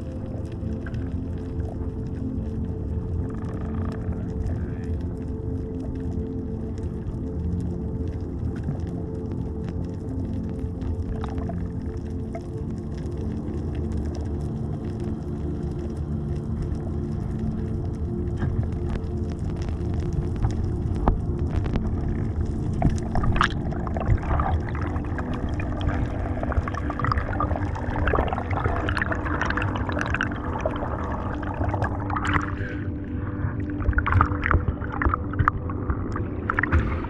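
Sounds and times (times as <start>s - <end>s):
muffled underwater rumble: 0.0s - 37.0s
underwater gurgles and clicks: 0.0s - 37.0s.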